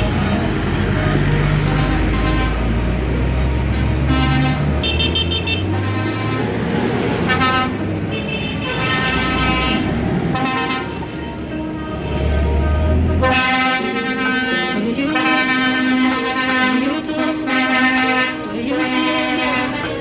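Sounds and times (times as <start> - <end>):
tractor engines running: 0.0 - 20.0
tractor horns tooting: 0.0 - 20.0.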